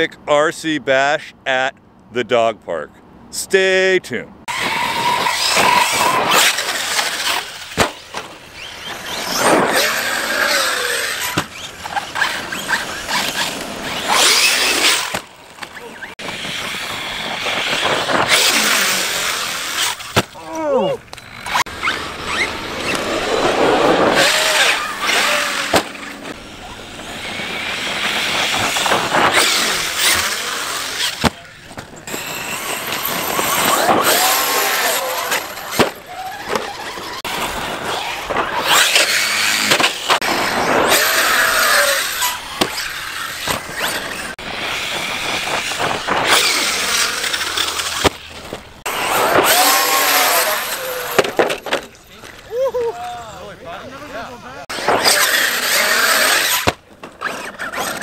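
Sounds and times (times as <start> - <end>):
rc truck motors whining: 4.5 - 52.5, 54.7 - 58.0.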